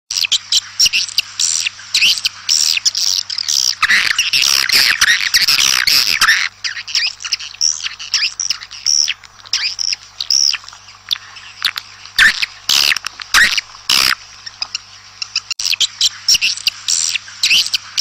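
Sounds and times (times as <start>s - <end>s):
swiftlets twittering chirps: 0.1s - 18.0s.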